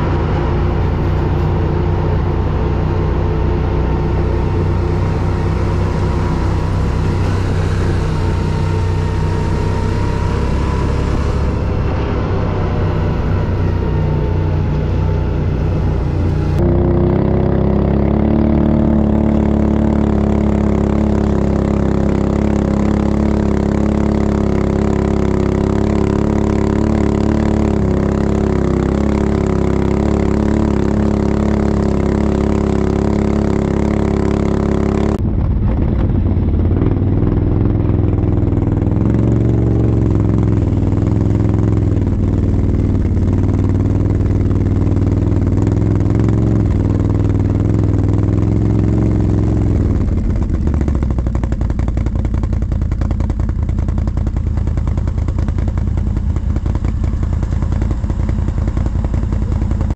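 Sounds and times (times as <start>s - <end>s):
atv engines running: 0.0s - 59.9s.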